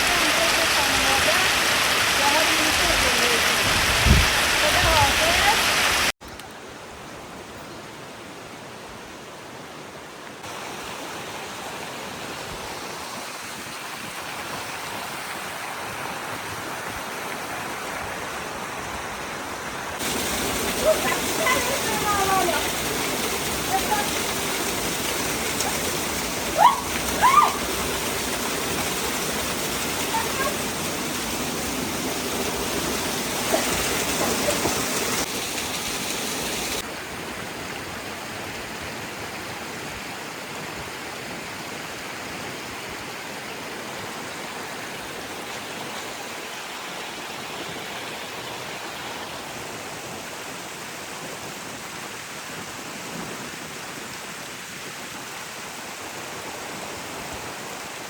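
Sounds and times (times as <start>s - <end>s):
rush of running water: 0.0s - 58.0s.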